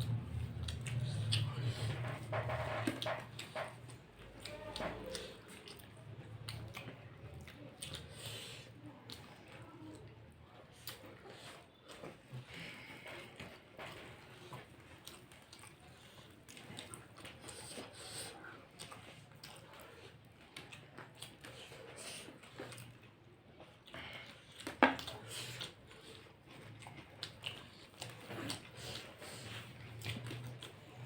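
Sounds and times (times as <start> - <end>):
chewing and biting: 0.0 - 31.0.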